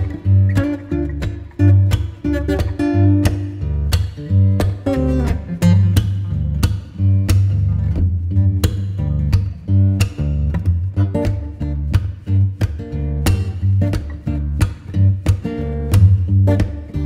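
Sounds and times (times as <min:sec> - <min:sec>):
steady bass line: 0:00.0 - 0:17.0
strummed acoustic guitar song: 0:00.0 - 0:17.0.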